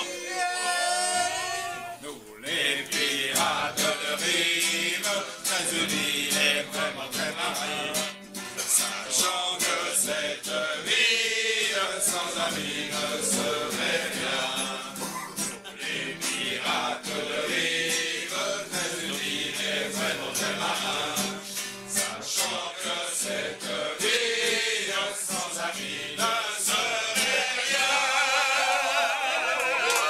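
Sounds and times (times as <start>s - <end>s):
group of voices singing: 0.0s - 30.0s.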